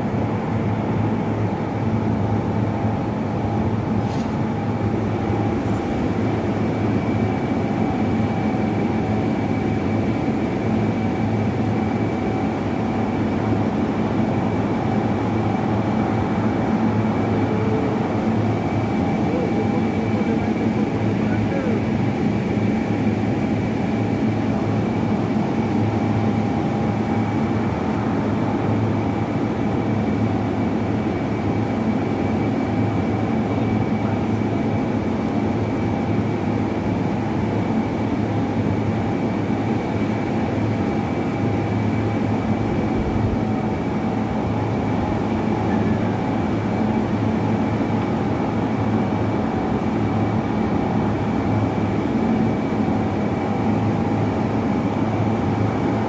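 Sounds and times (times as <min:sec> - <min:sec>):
industrial machinery drone: 0:00.0 - 0:56.0.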